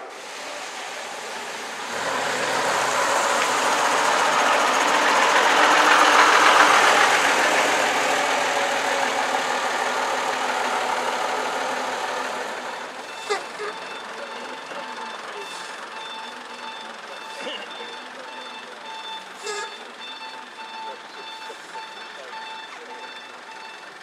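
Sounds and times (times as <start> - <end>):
bus diesel engine passing: 0.0 - 24.0.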